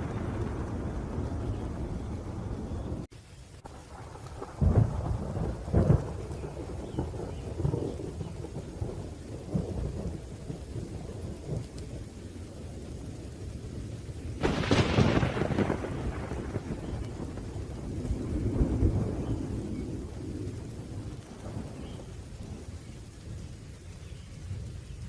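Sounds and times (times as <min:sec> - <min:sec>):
sharp thunderclap: 0:00.0 - 0:12.1, 0:14.2 - 0:22.8
rain: 0:00.0 - 0:25.0
thunder rumbling: 0:00.0 - 0:25.0.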